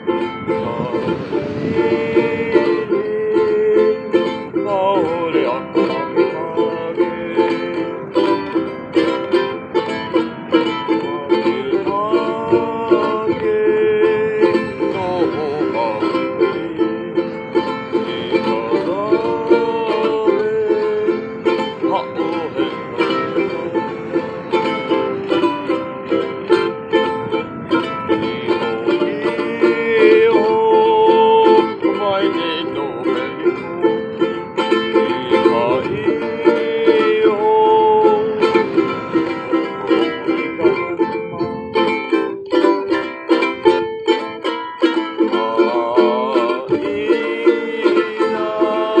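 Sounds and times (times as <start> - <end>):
man singing with vibrato: 0.0 - 49.0
ukulele strumming: 0.0 - 49.0.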